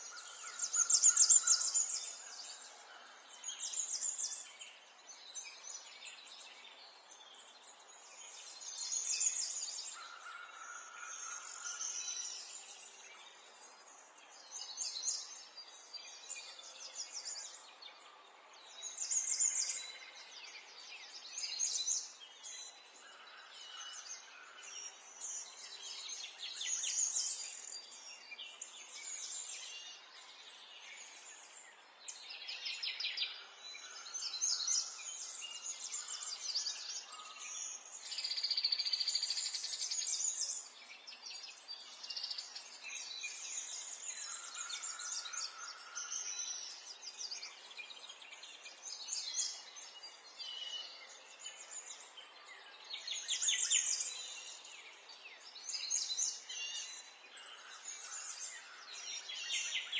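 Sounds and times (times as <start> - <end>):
songbirds singing and trilling: 0.0 - 59.9.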